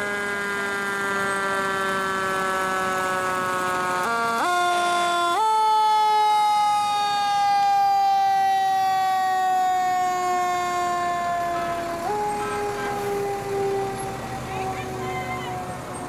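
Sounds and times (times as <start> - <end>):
fire engine siren: 0.0 - 16.0.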